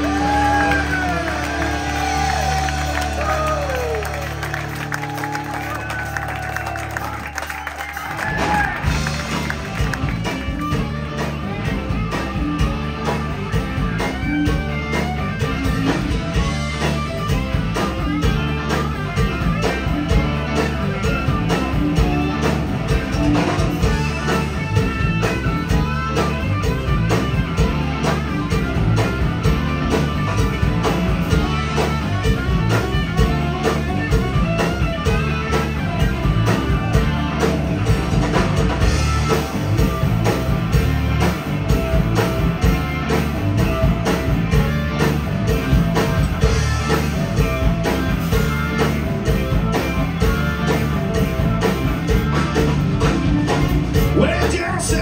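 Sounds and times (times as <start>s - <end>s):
blues-rock band playing: 0.0s - 55.0s.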